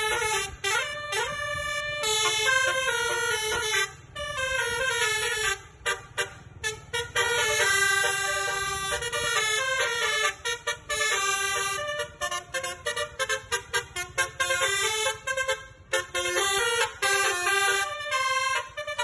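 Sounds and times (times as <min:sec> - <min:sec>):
multi-tone bus horn melody: 0:00.0 - 0:19.0.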